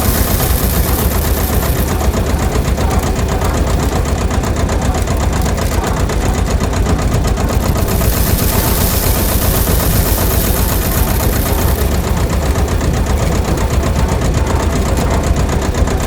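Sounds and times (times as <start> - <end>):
small machine rumbling and rattling: 0.0 - 16.0.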